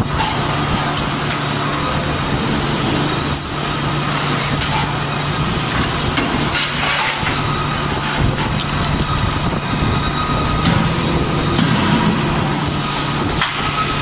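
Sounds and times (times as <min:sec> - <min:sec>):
machinery low hum: 0:00.0 - 0:14.0
shop noise hiss: 0:00.0 - 0:14.0.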